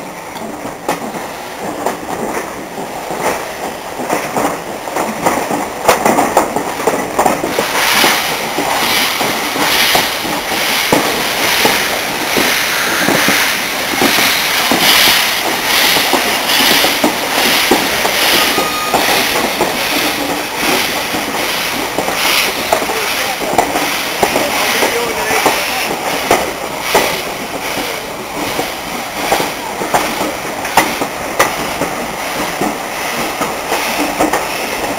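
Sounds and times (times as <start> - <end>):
steam locomotive chuffing: 0.0 - 34.9
wheels clacking on track: 0.2 - 34.9.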